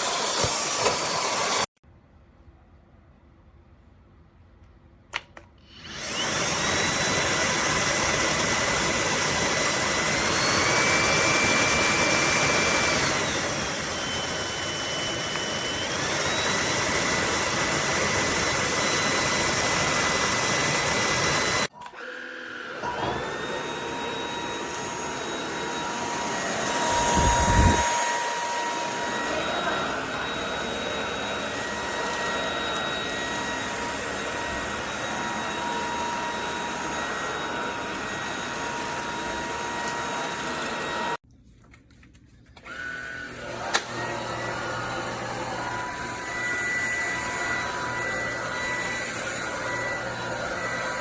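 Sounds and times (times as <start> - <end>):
stick vacuum high whine: 0.0 - 1.7, 5.7 - 41.2, 42.6 - 51.0.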